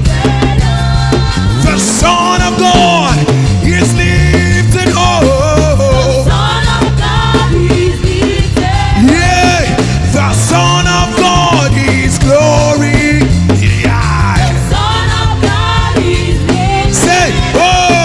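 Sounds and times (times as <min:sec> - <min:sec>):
gospel band with drums: 0:00.0 - 0:18.0
person singing sliding vocals: 0:00.0 - 0:18.0.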